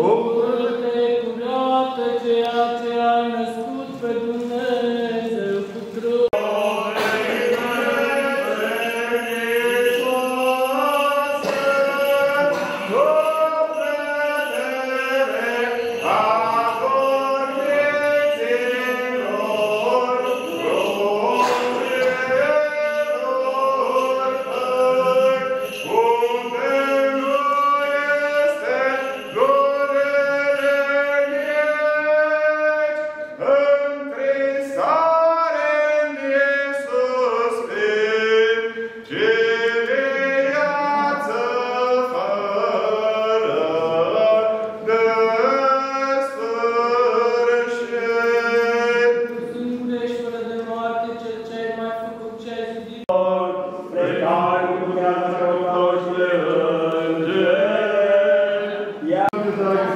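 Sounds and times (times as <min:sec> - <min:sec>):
male voices chanting a hymn: 0:00.0 - 0:59.9.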